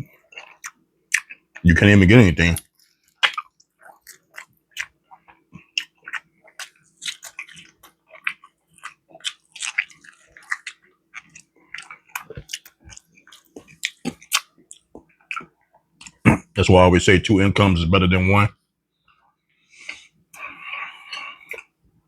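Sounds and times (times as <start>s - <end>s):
person chewing food: 0.0s - 1.7s, 2.5s - 16.3s, 19.1s - 22.0s.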